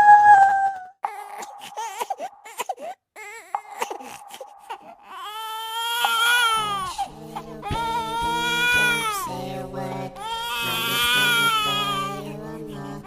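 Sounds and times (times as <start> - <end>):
ghostly crying wail: 1.0 - 12.3.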